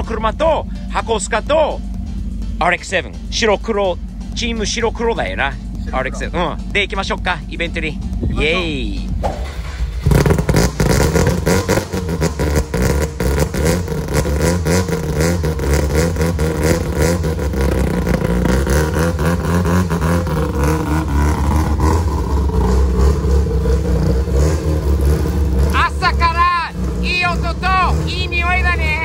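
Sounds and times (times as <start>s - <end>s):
rotary engine idling: 0.0s - 29.0s.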